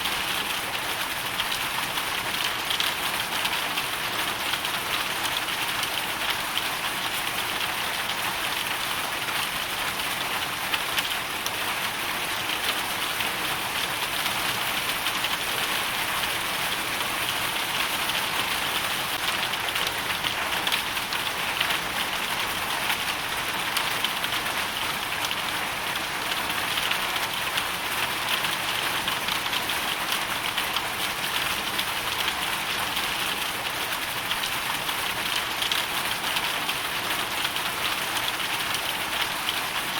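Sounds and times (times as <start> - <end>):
hail and rain on hard surfaces: 0.0 - 39.9.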